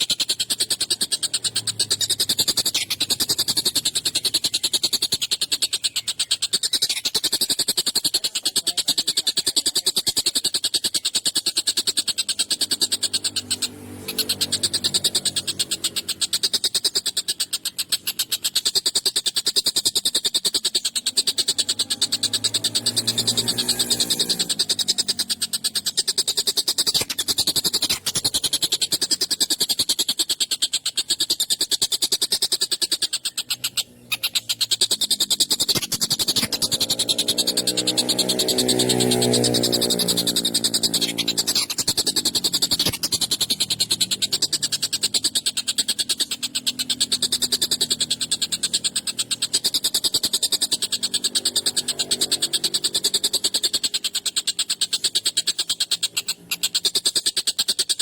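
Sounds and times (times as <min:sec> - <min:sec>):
kingfisher rattling call: 0:00.0 - 0:58.0
low drawn-out bird call: 0:00.0 - 0:58.0.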